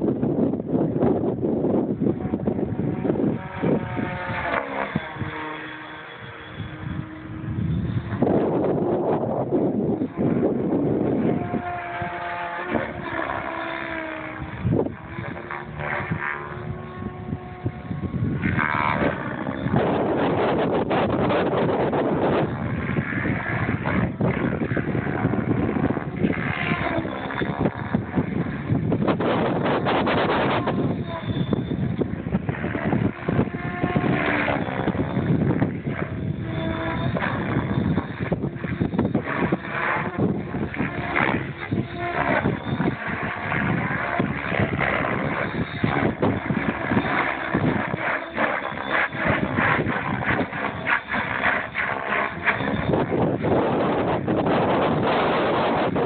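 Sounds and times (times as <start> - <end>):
model helicopter rotor whine: 0.0 - 56.0
wind buffeting microphone: 0.0 - 56.0.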